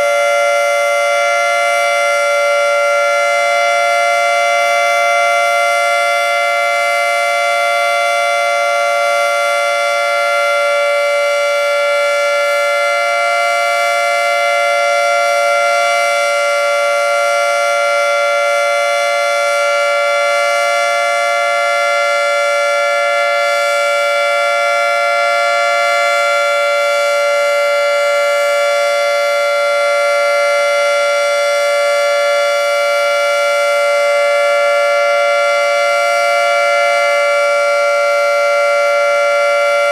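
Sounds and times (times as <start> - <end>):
dual-tone warning siren: 0.0 - 39.9.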